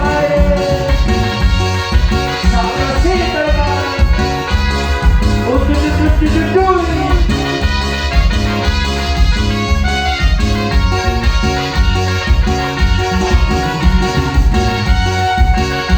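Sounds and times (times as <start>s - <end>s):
latin dance band playing: 0.0s - 15.9s.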